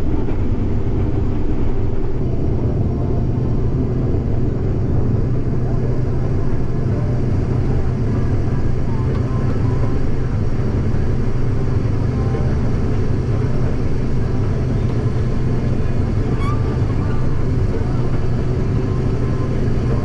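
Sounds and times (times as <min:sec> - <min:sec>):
vehicle engine drone: 0:00.0 - 0:20.0.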